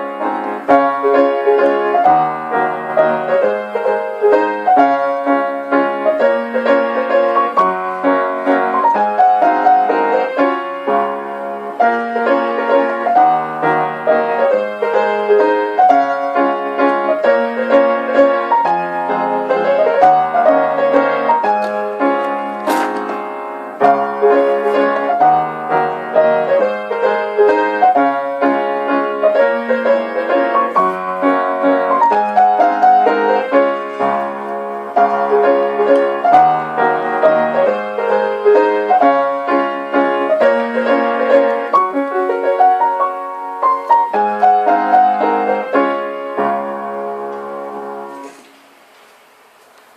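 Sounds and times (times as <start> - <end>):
gentle solo piano: 0.0 - 49.9.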